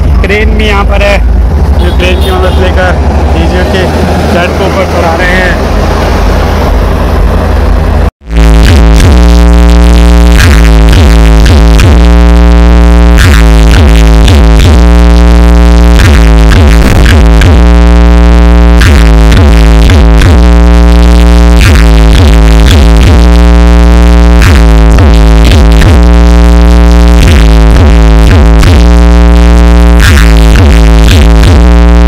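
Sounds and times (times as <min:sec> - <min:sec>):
electronic dance music: 0:00.0 - 0:06.6, 0:08.2 - 0:32.0.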